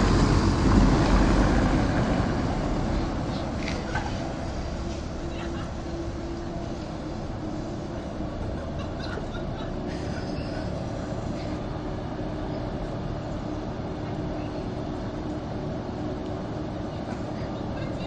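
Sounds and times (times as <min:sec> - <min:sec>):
street noise: 0:00.0 - 0:18.0
tram electric hum: 0:00.0 - 0:18.0.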